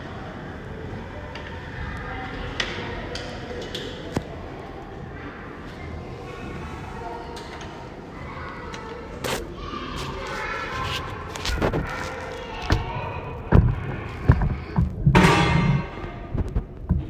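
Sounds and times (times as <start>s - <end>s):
faint talking: 0.0s - 14.8s.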